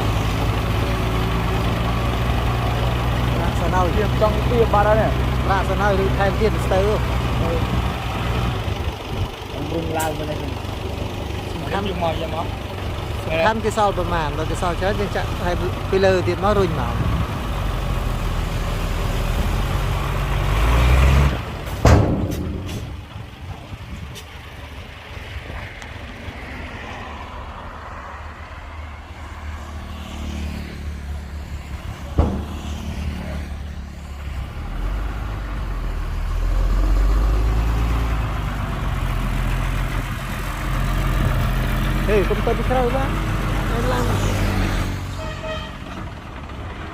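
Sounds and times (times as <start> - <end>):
diesel truck engine running: 0.0 - 26.6, 30.9 - 46.9.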